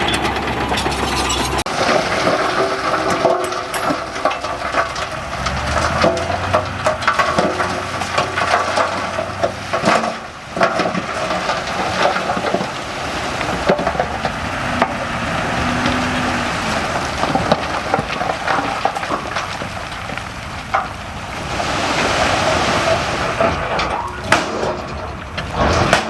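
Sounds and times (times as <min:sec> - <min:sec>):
heavy machinery engine: 0:00.0 - 0:26.0
soil and stones crackling: 0:00.0 - 0:26.0.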